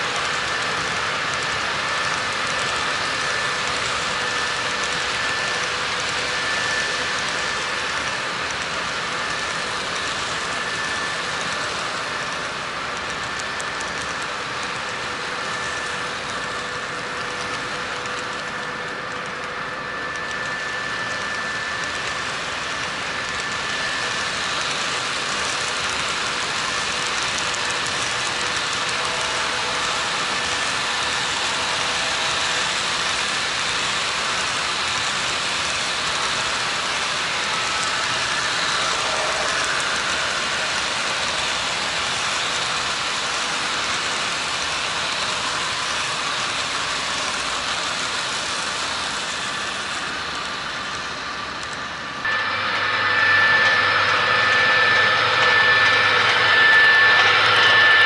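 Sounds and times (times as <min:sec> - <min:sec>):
model train wheels rolling: 0:00.0 - 0:58.0
faint whining tones: 0:00.1 - 0:58.0.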